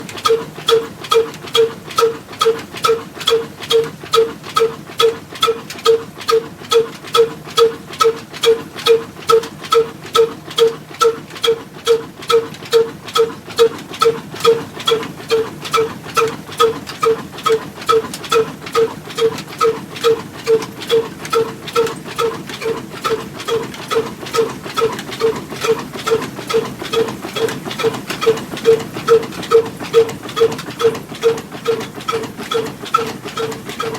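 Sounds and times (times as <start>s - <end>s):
single-cylinder diesel engine running: 0.0s - 33.9s.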